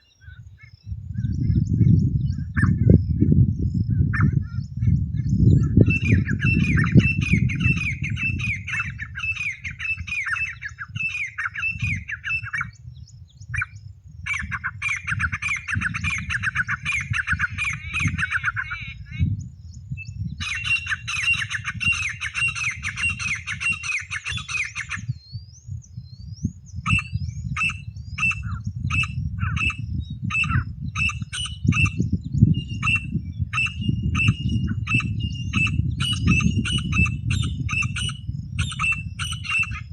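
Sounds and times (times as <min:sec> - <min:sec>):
francolin calls: 0:00.0 - 0:39.9.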